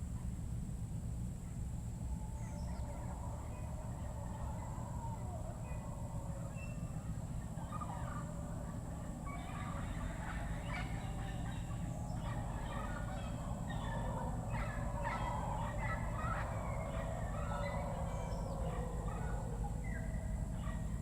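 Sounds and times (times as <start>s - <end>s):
steady low hum: 0.0s - 21.0s
birds chattering calls: 2.4s - 21.0s.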